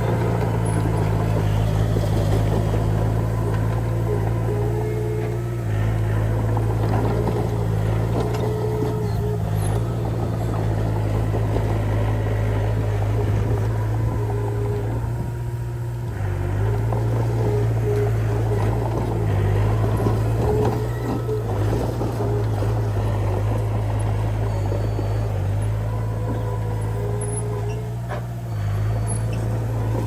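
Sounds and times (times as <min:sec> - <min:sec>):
bulldozer diesel engine running: 0:00.0 - 0:30.0
steel tracks rattling: 0:00.0 - 0:30.0.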